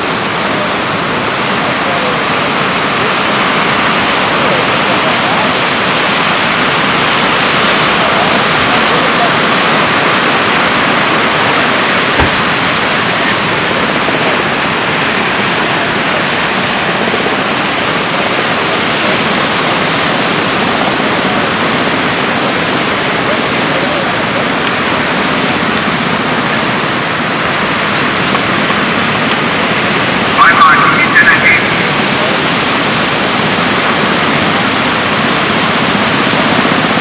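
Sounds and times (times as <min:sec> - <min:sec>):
ocean surf breaking on rocks: 0:00.0 - 0:37.0.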